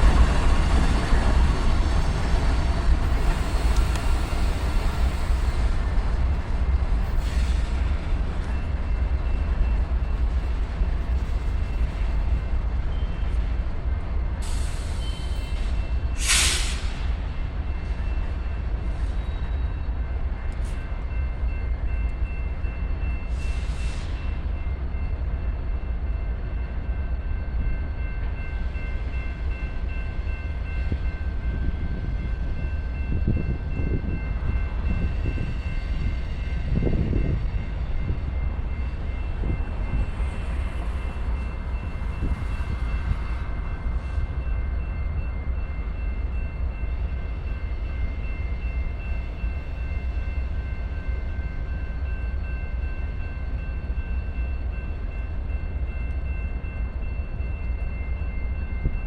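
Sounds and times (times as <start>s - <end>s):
freight train rumbling past: 0.0s - 59.0s
train knocks and clanks: 0.0s - 59.0s.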